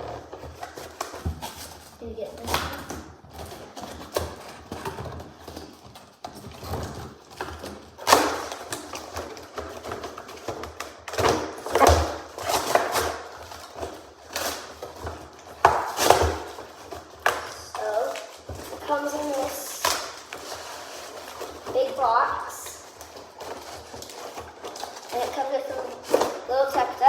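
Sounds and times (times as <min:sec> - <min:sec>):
cardboard box rustling and scraping: 0:00.0 - 0:02.4, 0:03.2 - 0:27.0.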